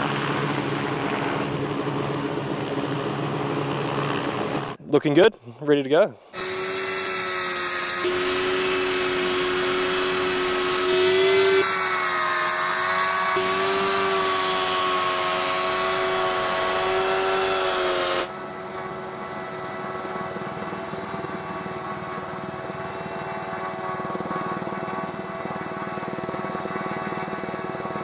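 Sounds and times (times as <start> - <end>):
aircraft engine running: 0.0 - 28.0.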